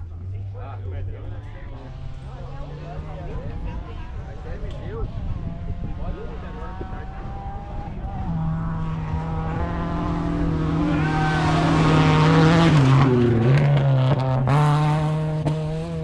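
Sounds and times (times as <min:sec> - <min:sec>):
rally car passing at speed: 0:01.3 - 0:16.0.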